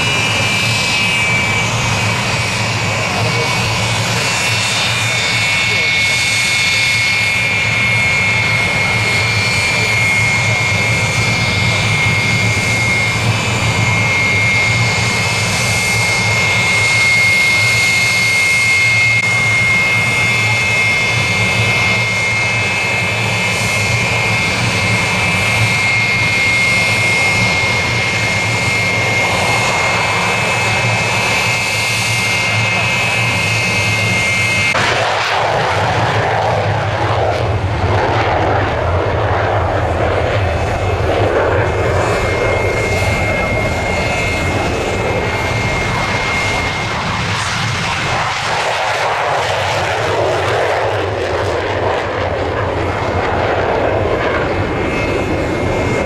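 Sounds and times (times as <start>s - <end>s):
jet engine whine on ground: 0.0s - 56.0s
jet in flight: 0.0s - 56.0s.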